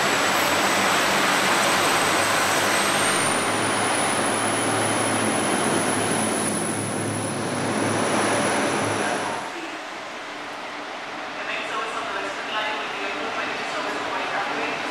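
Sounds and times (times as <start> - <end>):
train engine and wheels rumbling: 0.0 - 14.9.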